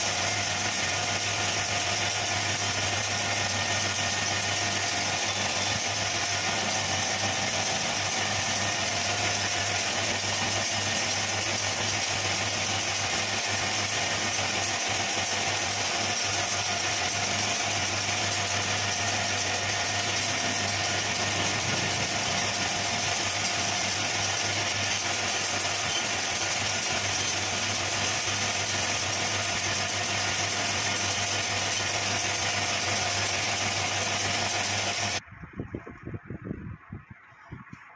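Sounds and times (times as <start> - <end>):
wood lathe running: 0.0 - 35.2.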